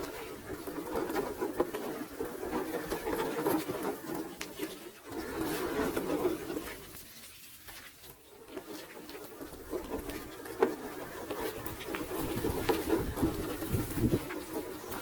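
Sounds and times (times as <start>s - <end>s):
tyres scraping over rocks: 0.0s - 15.0s.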